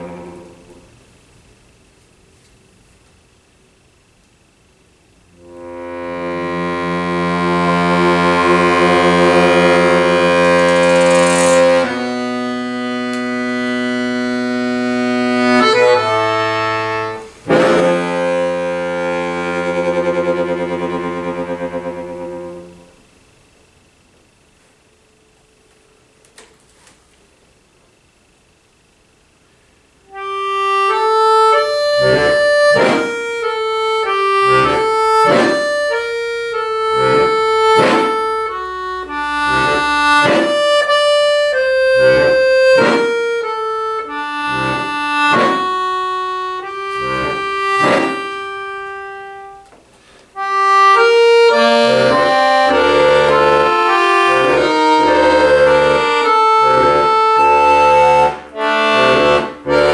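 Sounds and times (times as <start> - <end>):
accordion playing chords: 0.0 - 1.0, 5.3 - 23.0, 30.0 - 59.9.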